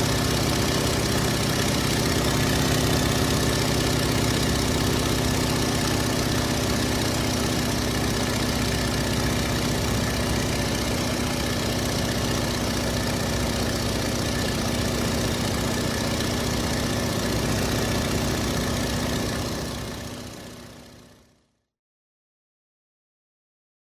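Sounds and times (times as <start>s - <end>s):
radial engine idling: 0.0s - 21.0s.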